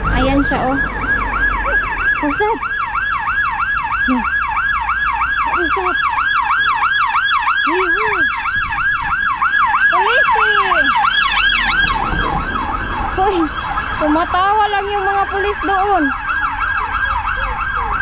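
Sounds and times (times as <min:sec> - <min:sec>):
police siren yelping: 0:00.0 - 0:18.0.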